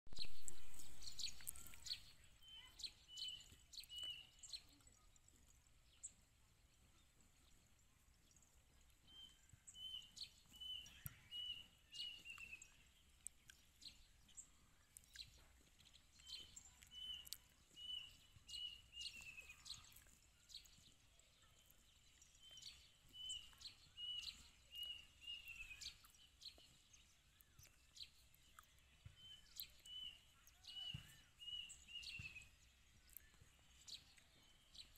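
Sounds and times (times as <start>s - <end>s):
bird singing: 0.1s - 34.9s.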